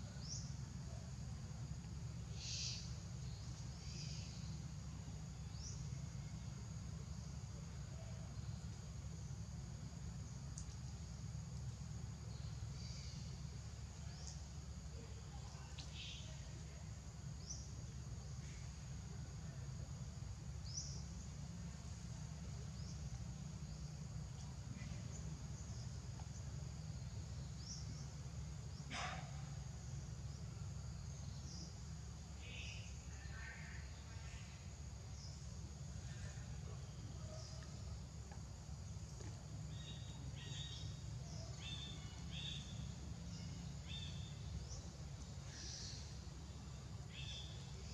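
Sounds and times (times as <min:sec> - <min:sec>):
high insect drone: 0:00.0 - 0:47.9.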